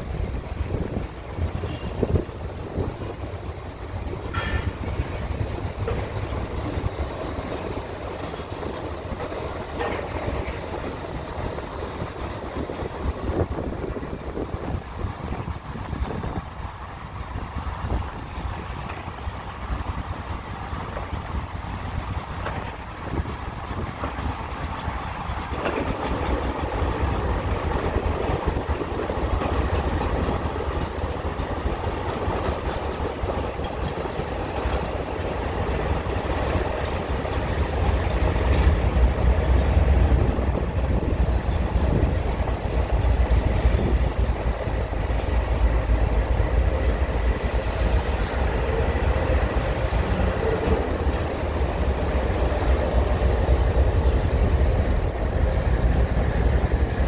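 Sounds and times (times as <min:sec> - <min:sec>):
hopper cars rolling: 0:00.0 - 0:57.0
locomotive engine rumble: 0:00.0 - 0:57.0.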